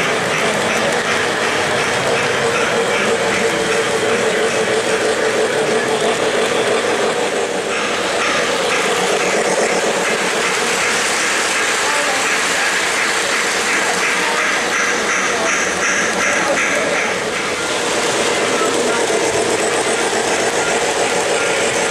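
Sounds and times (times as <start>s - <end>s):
model train wheels clattering: 0.0s - 21.9s.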